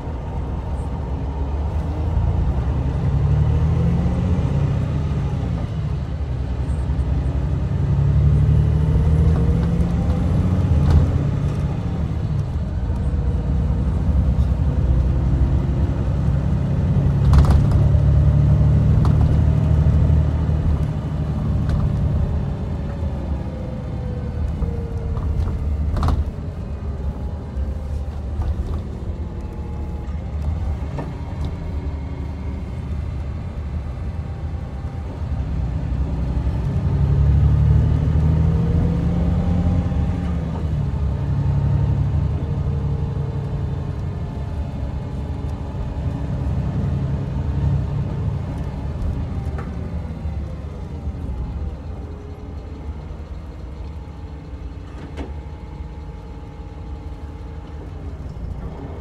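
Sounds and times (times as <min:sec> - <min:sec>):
coach engine and road rumble: 0:00.0 - 0:59.0.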